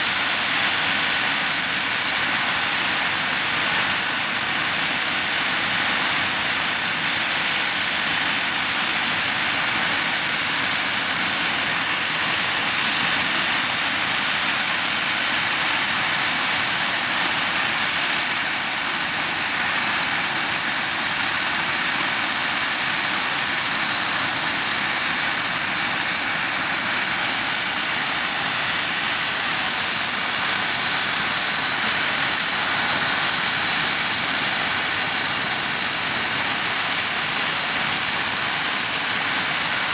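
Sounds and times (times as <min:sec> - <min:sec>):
high-pitched engine whine: 0:00.0 - 0:39.9
jet engine roar: 0:00.0 - 0:39.9.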